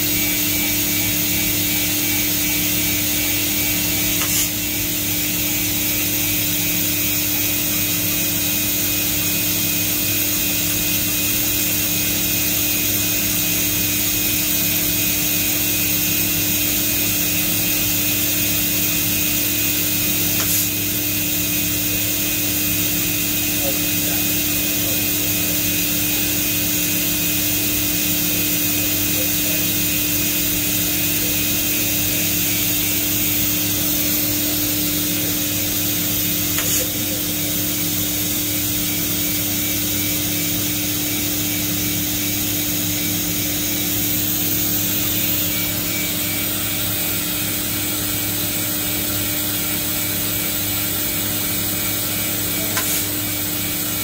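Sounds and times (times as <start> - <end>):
machine hum and whine: 0.0 - 54.0.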